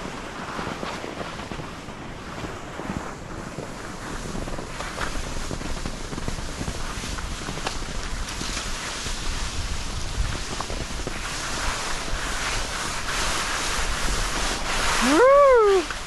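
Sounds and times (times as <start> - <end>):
sharp ski scrapes: 0.0 - 16.0
skis hissing over snow: 0.0 - 16.0
wind buffeting microphone: 0.0 - 16.0.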